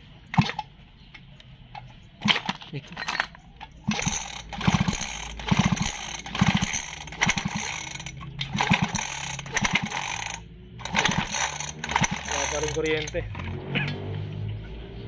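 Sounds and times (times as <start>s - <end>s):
engine turning over: 0.3s - 0.7s, 2.2s - 14.2s
recoil starter pulled: 0.3s - 0.7s, 1.7s - 14.0s.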